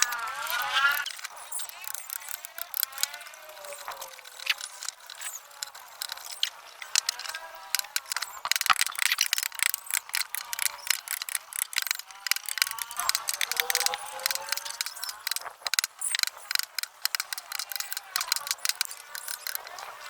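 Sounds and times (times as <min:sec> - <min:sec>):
rapid clicks and knocks: 0:00.0 - 0:20.0.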